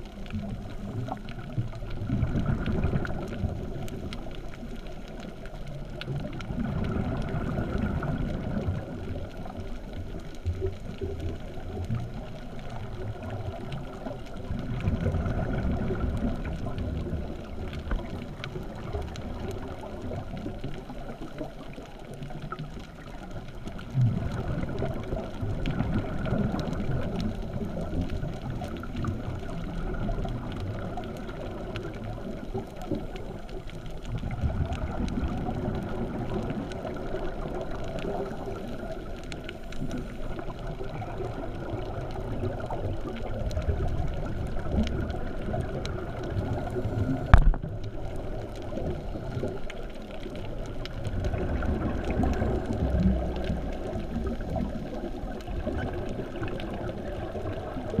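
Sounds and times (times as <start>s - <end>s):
underwater regulator bubbles: 0.0s - 58.0s.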